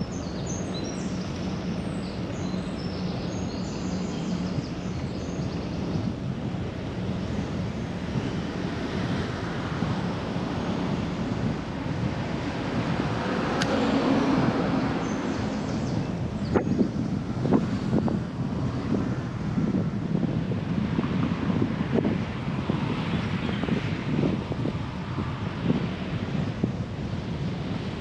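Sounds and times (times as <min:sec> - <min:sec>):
road noise: 0:00.0 - 0:28.0
wind rush: 0:00.0 - 0:28.0.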